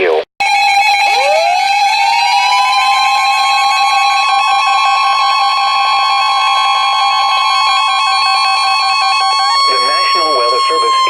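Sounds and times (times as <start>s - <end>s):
high-pitched electronic alarm tone: 0.4s - 11.0s
rapidly pulsing alarm beeps: 1.2s - 11.0s.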